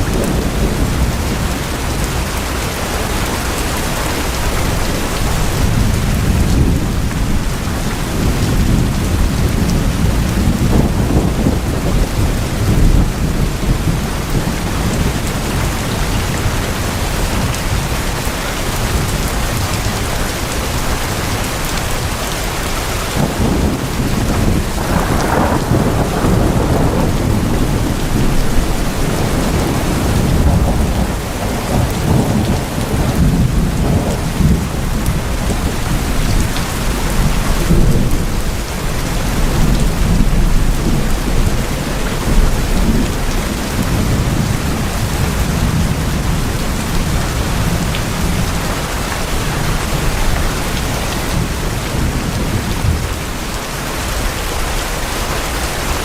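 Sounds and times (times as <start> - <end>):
rolling thunder: 0.0 - 54.7
rain drumming on tin roofs: 0.0 - 56.0.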